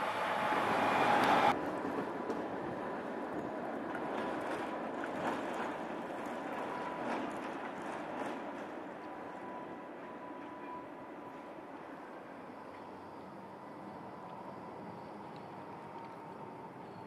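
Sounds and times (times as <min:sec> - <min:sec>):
tram rumble: 0:00.0 - 0:17.0.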